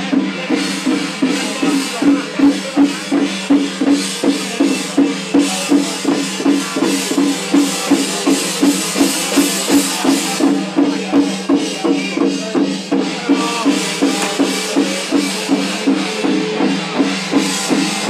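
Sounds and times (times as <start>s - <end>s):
cymbals crashing: 0.0s - 18.0s
drum beating fast: 0.0s - 18.0s.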